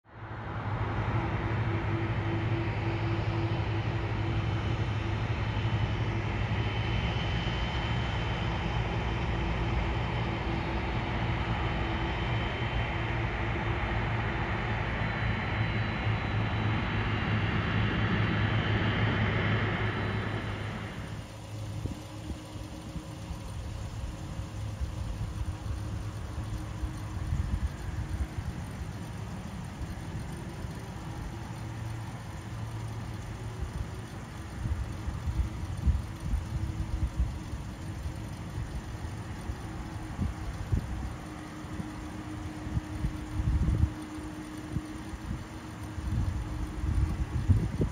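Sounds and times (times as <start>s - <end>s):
jet engines low rumble: 0.0s - 47.9s
faint high engine whine: 0.1s - 47.9s.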